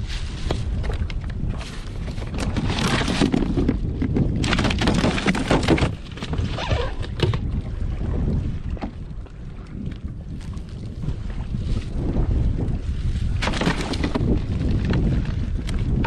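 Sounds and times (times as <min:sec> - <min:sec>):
water slapping against hull: 0:00.0 - 0:16.0
wind buffeting microphone: 0:00.0 - 0:16.0.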